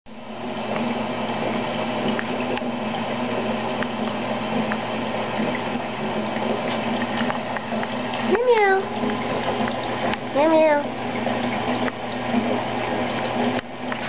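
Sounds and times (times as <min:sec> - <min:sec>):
faucet filling bathtub: 0:00.1 - 0:14.0.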